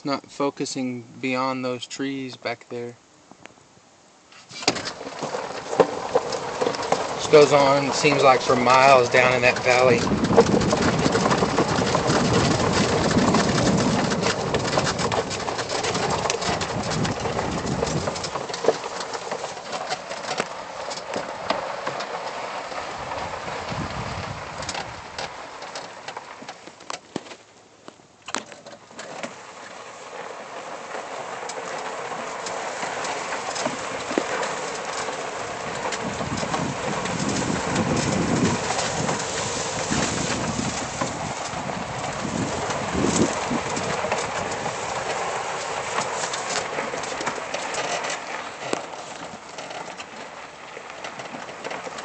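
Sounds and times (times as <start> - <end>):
golf cart driving on dirt: 0.0 - 52.0
small knocks and rattles: 4.3 - 52.0.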